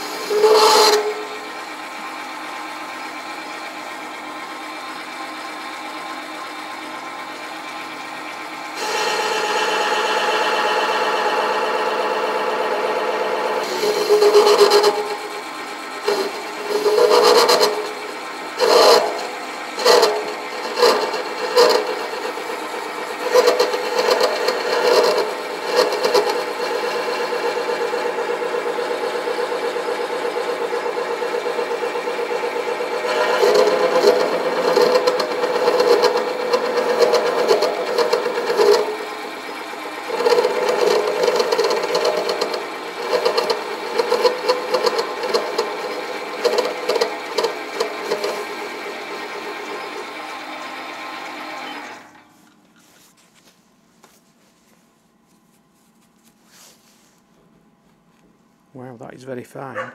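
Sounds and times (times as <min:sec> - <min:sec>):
lathe tool cutting metal: 0:00.0 - 0:52.2
lathe humming: 0:00.0 - 0:55.4.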